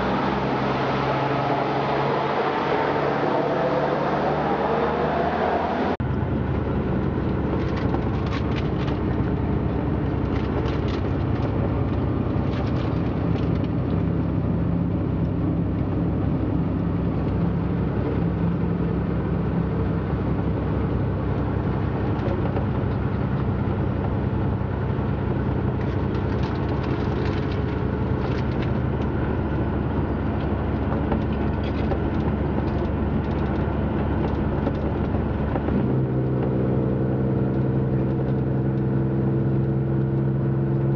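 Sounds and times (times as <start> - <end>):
vehicle engine drone: 0.0 - 40.9.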